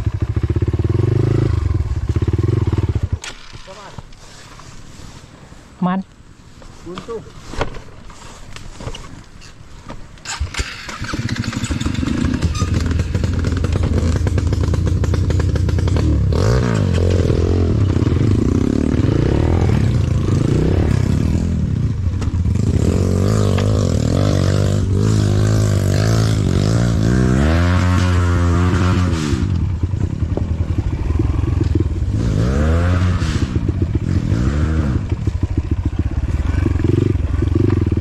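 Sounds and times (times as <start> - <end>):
dirt bike engine revving: 0.0 - 3.8, 10.2 - 38.0.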